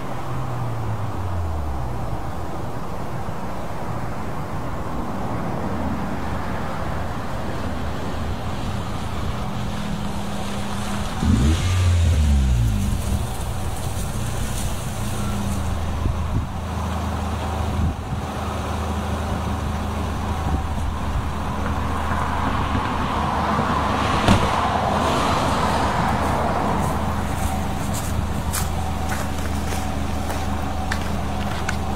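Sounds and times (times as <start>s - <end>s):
car engine running and revving: 0.0s - 3.6s, 6.2s - 31.9s.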